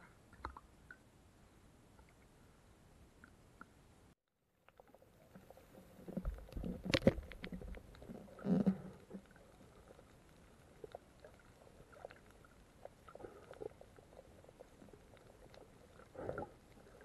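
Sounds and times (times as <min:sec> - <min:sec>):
faint crackle of small clicks: 0:00.0 - 0:01.1, 0:01.9 - 0:02.4, 0:04.6 - 0:17.0.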